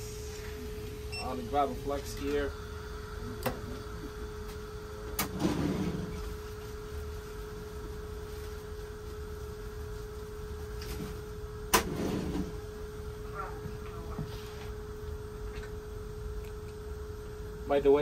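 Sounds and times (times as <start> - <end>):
hum of bench equipment: 0.0 - 18.0.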